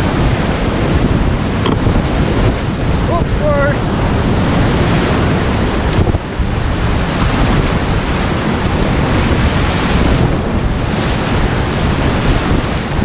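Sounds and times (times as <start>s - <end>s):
water splashing on camera: 0.0s - 13.0s
whitewater rapid rushing: 0.0s - 13.0s.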